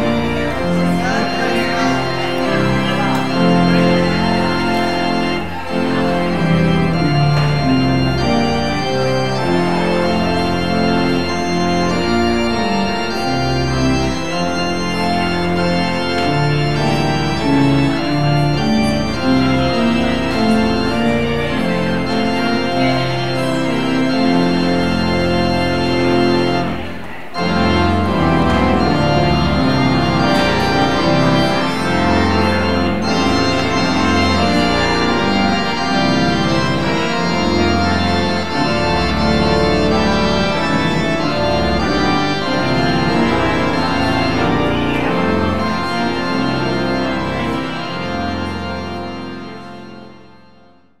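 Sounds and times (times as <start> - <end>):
pipe organ playing chords: 0.0 - 51.0.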